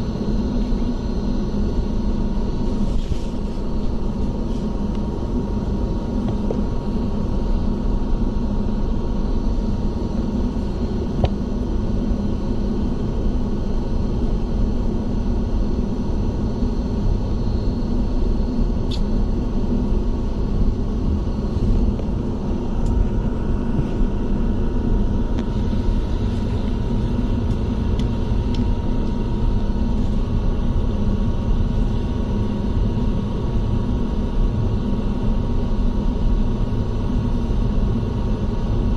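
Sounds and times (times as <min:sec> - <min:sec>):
faint steady whine: 0:00.0 - 0:38.9.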